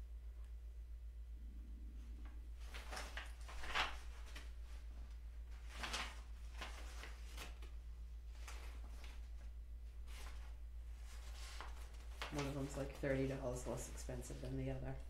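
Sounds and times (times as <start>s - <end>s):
low electrical hum: 0.0s - 15.0s
paper sheets rustling: 2.6s - 15.0s.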